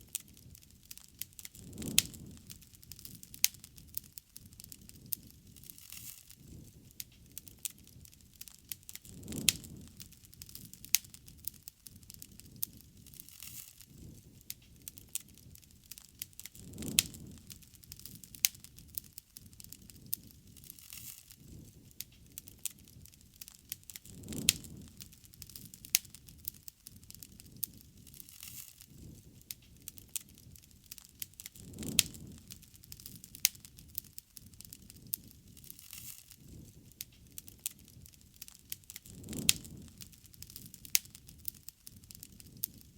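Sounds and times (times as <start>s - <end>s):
bonfire crackling and popping: 0.0s - 42.9s
low rumble of flames: 0.0s - 42.9s.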